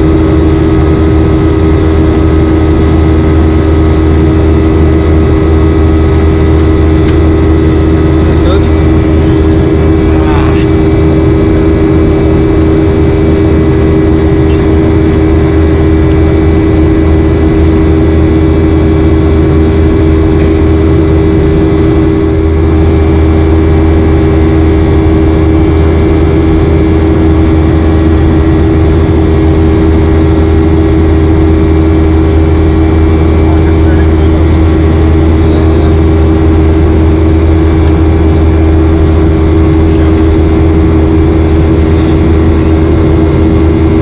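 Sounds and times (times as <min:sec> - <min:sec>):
jet engines droning in cabin: 0:00.0 - 0:44.0.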